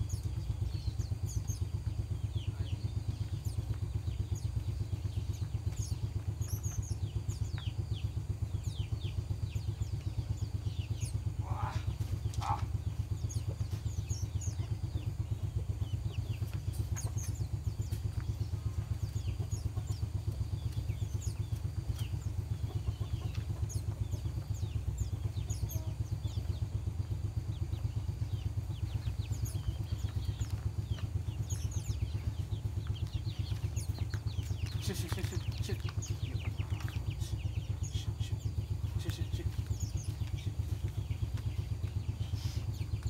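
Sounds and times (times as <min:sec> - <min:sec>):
small birds chirping: 0:00.0 - 0:43.0
small engine running: 0:00.0 - 0:43.0.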